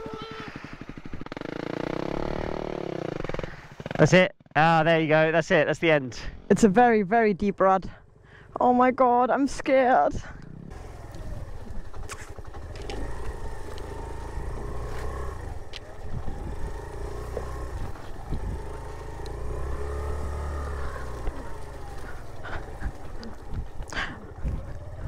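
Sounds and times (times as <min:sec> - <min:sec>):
motorcycle engine at low speed: 0:00.0 - 0:25.0.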